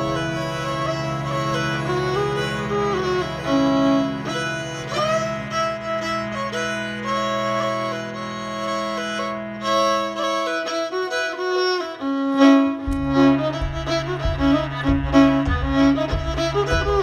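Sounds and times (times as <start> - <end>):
low bass note: 0.0 - 9.9, 12.6 - 17.0
steady beat: 0.0 - 10.4, 11.2 - 17.0
bowed fiddle melody: 0.0 - 17.0.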